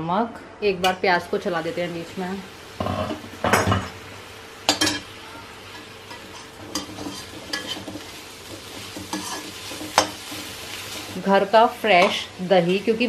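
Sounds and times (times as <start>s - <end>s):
onions frying with steady hiss: 0.6s - 13.0s.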